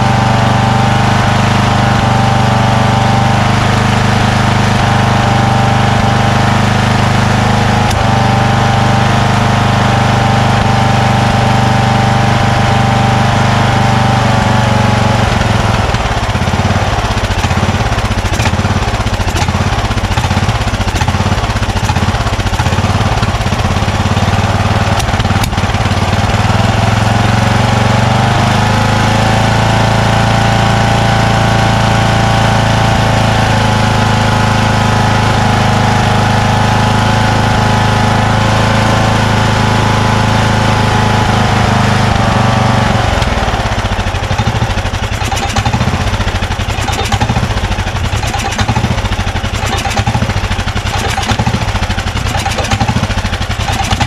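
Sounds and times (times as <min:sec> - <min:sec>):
lawn tractor engine running: 0:00.0 - 0:54.0.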